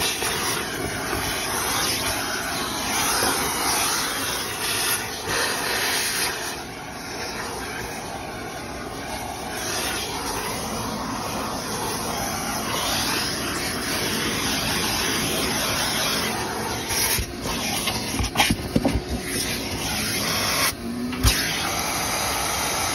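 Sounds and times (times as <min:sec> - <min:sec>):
rushing air of vent cleaning equipment: 0:00.0 - 0:22.9.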